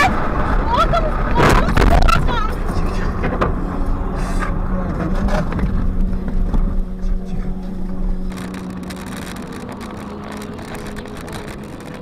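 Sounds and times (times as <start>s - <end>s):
car engine hum: 0.0s - 12.0s
road noise rumble: 0.0s - 12.0s.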